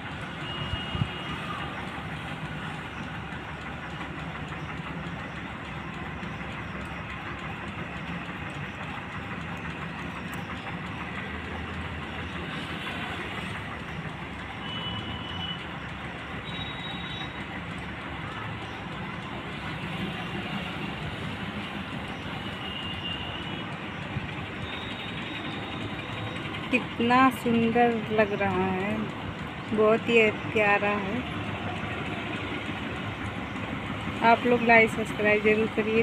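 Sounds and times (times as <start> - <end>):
combine harvester droning: 0.0 - 36.0.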